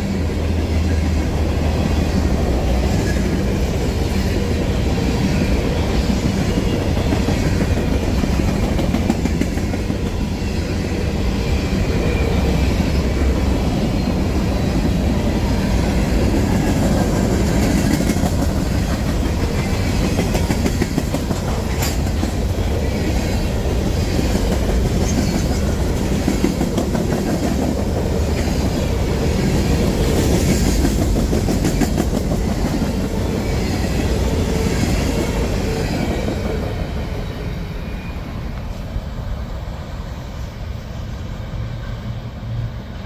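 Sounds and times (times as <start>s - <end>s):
train wheels clattering over rails: 0.8s - 10.4s, 11.7s - 37.0s.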